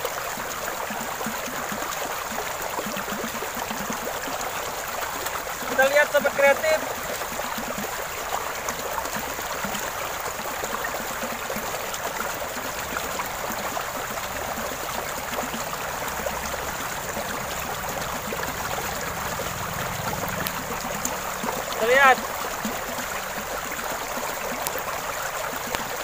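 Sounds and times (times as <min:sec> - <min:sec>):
stream water rushing and splashing: 0:00.0 - 0:26.0.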